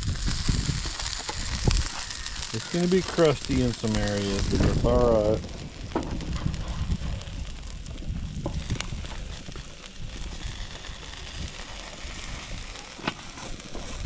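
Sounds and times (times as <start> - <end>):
pizza sizzling on a griddle: 0.0 - 14.0.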